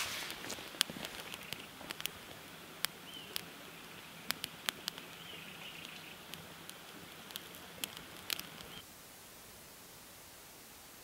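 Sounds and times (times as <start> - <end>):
campfire crackling and popping: 0.0 - 8.8
faint steady hiss: 0.0 - 11.0.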